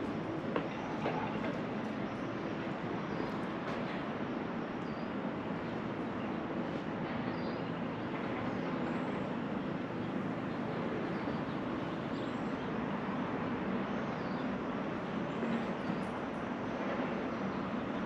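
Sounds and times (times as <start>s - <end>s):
rumbling background noise: 0.0s - 18.0s.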